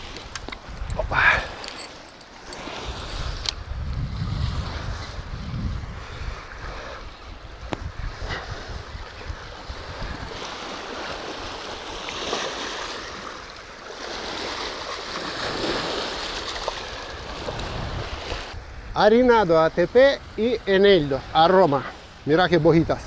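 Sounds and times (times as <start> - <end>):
wind rumbling on microphone: 0.0 - 13.4, 14.0 - 23.0
small waves washing against bank: 0.0 - 18.6.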